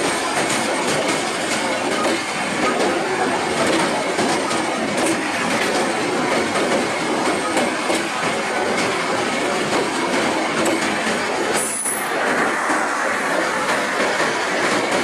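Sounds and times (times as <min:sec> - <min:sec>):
rail joint clicks: 0:00.0 - 0:15.0
train wheels rushing on rails: 0:00.0 - 0:15.0.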